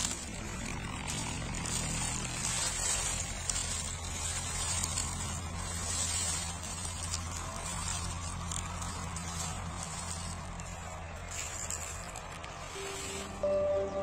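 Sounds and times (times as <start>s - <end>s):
footsteps through dry leaves: 0.0s - 14.0s.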